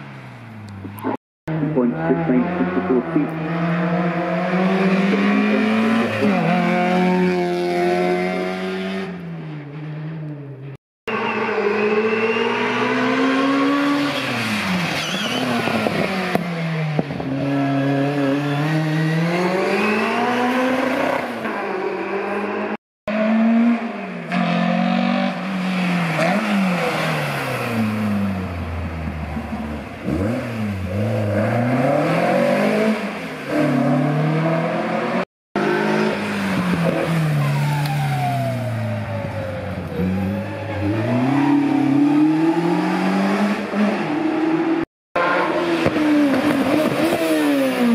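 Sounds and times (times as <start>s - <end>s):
race cars accelerating and shifting gears: 0.0s - 47.9s.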